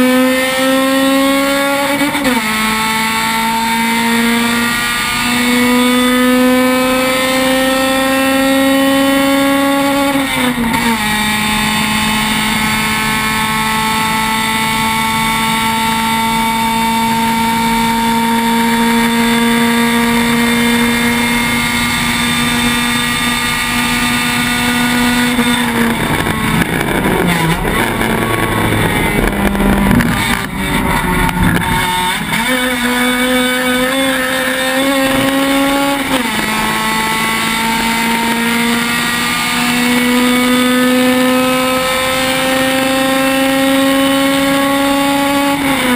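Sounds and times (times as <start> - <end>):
race car engine at high revs: 0.0 - 45.9.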